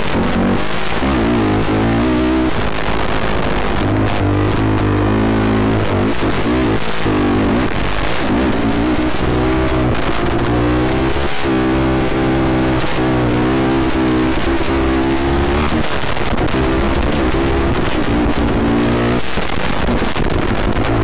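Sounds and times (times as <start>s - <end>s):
quad engine revving: 0.0s - 21.0s.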